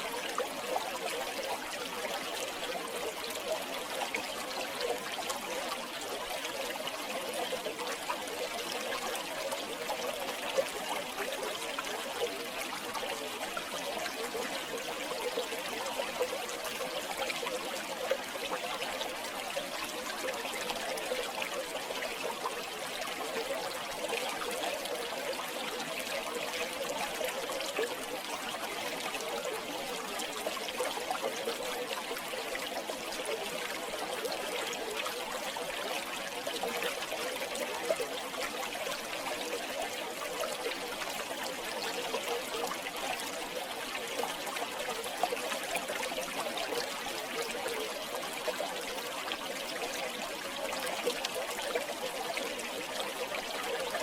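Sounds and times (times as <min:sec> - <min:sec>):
river water flowing and trickling: 0:00.0 - 0:54.0.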